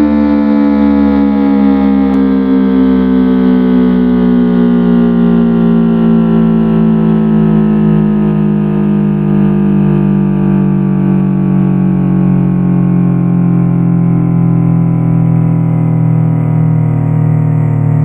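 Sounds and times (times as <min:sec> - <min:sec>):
mechanical siren winding down: 0:00.0 - 0:18.0.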